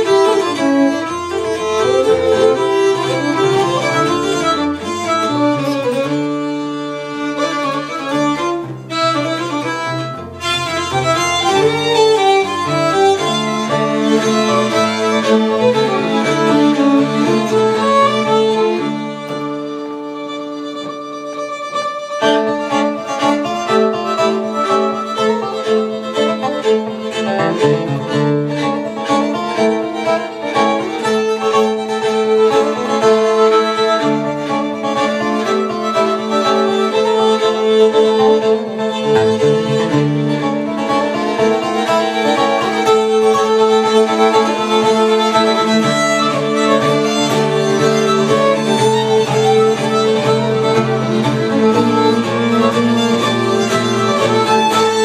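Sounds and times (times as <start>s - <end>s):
fiddle: 0.0s - 55.0s.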